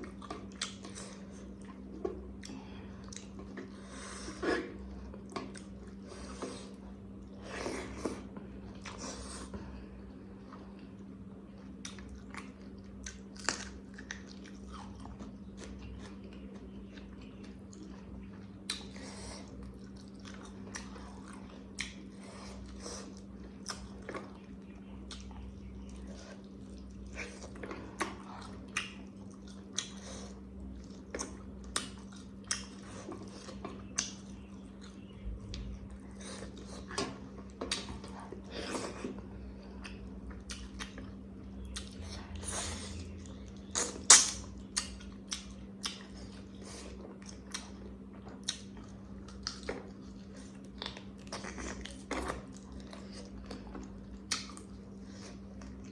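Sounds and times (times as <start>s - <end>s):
person chewing with mouth smacks: 0.0s - 9.7s, 10.4s - 55.9s
steady low hum: 0.0s - 55.9s.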